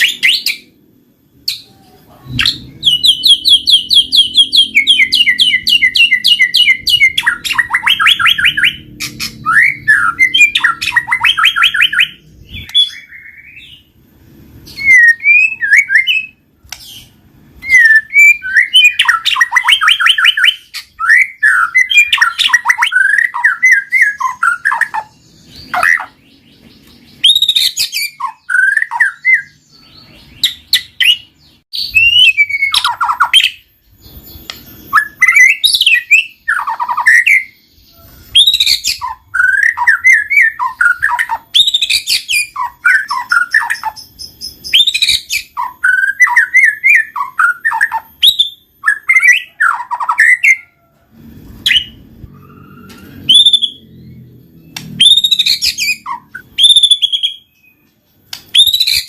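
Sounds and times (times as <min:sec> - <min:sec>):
songbird singing varied song: 0:01.4 - 0:13.9, 0:14.6 - 0:50.8, 0:51.7 - 0:59.0.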